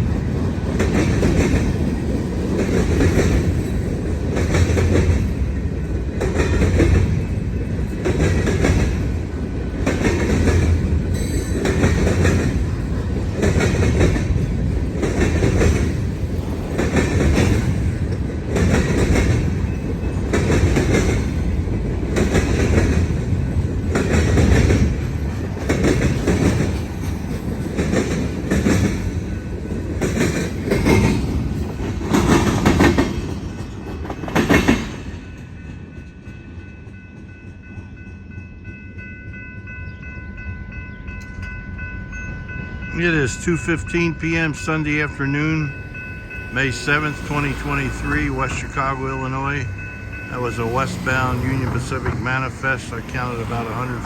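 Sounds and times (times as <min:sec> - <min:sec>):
train wheels clattering over crossing: 0:00.0 - 0:40.0, 0:42.9 - 0:54.0
train rumble: 0:00.0 - 0:54.0.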